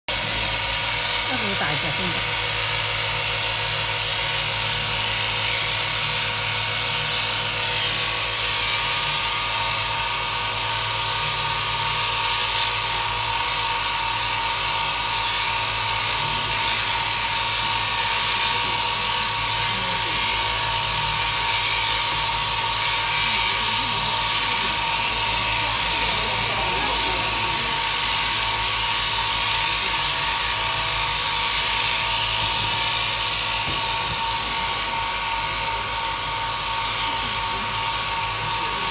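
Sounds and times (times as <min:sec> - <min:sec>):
electric shearing handpiece whine: 0:00.1 - 0:38.9.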